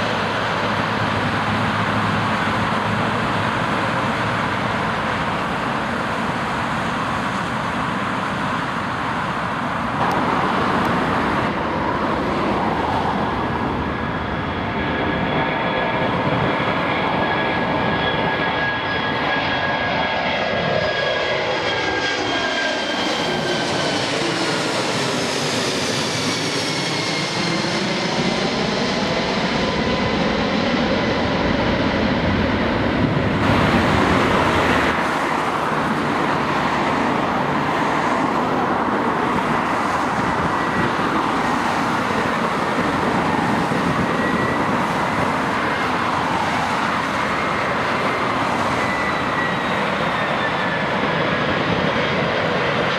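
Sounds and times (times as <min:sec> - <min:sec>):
jet airliner passing: 0:00.0 - 0:52.9.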